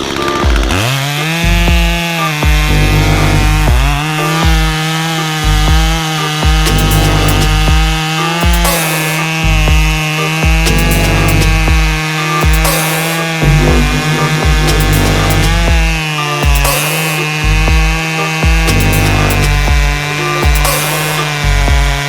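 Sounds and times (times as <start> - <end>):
chainsaw cutting wood: 0.0 - 22.0
music with pulsing bass: 0.0 - 22.0.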